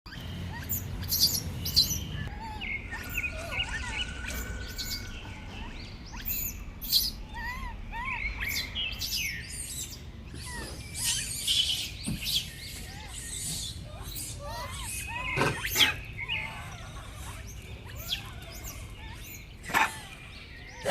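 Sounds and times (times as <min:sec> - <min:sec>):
high-pitched chirping animal calls: 0:00.1 - 0:20.9.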